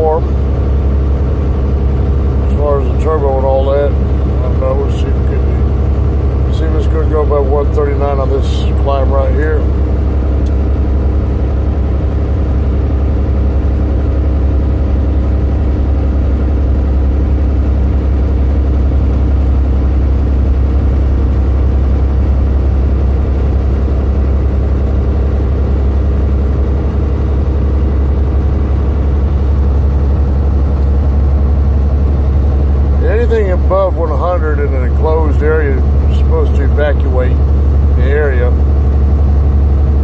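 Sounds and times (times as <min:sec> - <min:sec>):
truck diesel engine pulling under load: 0:00.0 - 0:40.0.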